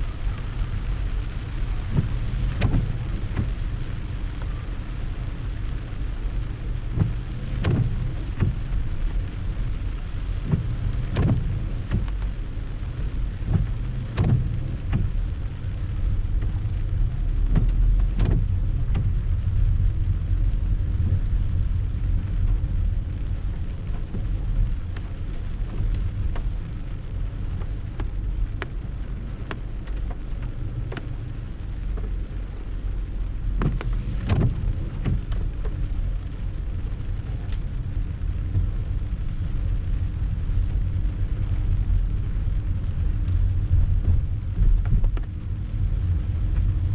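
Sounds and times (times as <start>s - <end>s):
low rumble: 0.0s - 46.9s
rain falling: 0.0s - 46.9s.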